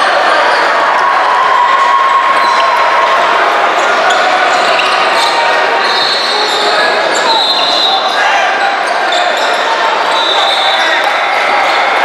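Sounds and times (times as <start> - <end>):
crowd voices: 0.0 - 12.0.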